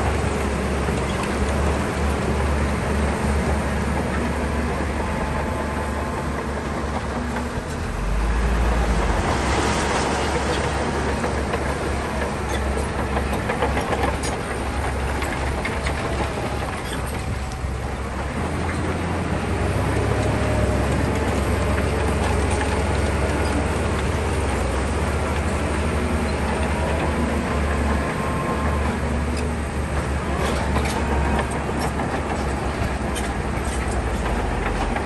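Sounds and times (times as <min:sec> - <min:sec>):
diesel engine running: 0:00.0 - 0:35.0
steel tracks clanking: 0:03.8 - 0:35.0.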